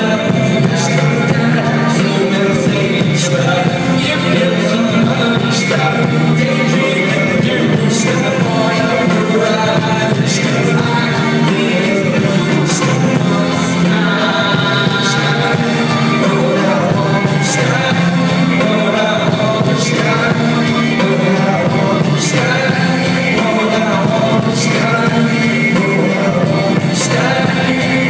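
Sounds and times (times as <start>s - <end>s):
live band with singing: 0.0s - 28.0s.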